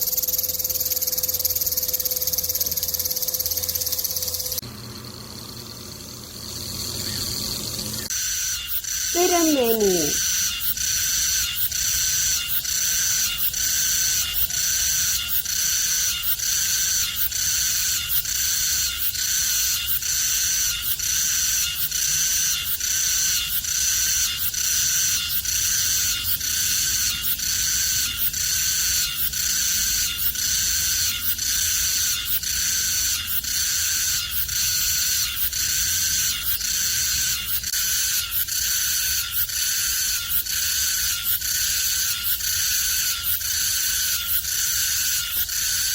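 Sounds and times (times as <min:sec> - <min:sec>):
cicada singing loudly: 0:00.0 - 0:45.9.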